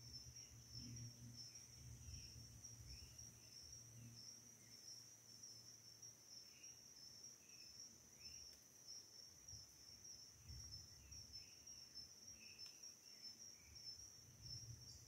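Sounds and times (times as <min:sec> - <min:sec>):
insect chirps: 0:00.0 - 0:15.0
insects trilling: 0:00.0 - 0:15.0.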